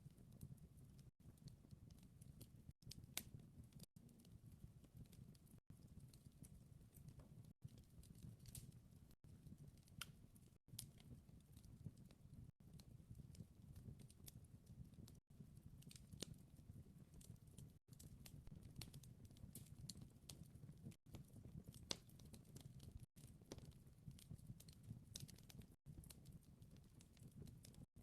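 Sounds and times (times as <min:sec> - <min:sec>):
faint wood fire crackling: 0:00.0 - 0:28.0.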